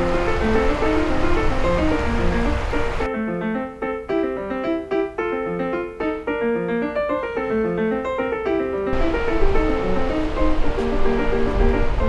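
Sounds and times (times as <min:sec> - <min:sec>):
solo piano melody: 0:00.0 - 0:12.0.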